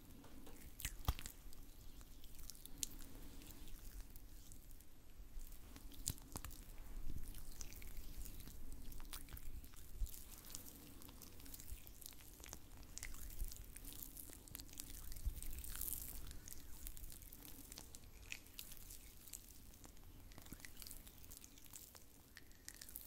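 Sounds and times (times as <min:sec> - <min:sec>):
wet sticky squelches of oil massage: 0:00.5 - 0:23.0.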